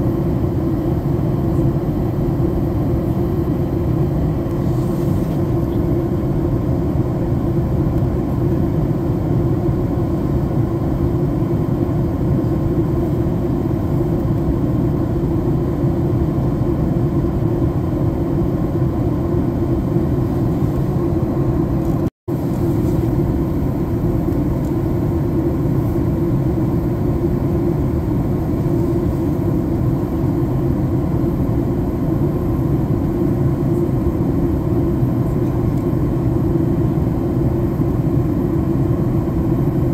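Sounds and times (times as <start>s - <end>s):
jet airliner cabin roar: 0.0s - 39.9s.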